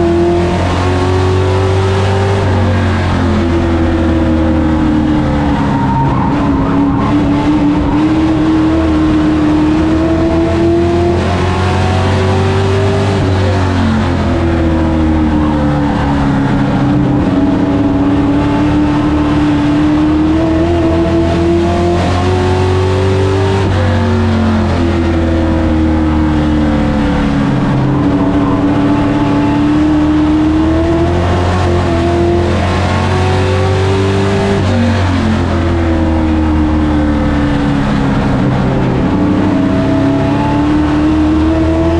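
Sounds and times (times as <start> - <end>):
race truck engine revving: 0.0 - 41.9
tyre and road noise: 0.0 - 41.9.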